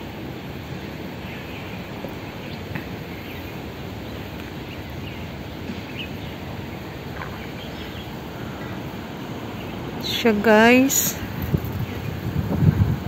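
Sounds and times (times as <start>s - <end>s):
wind on a rooftop: 0.0s - 13.0s.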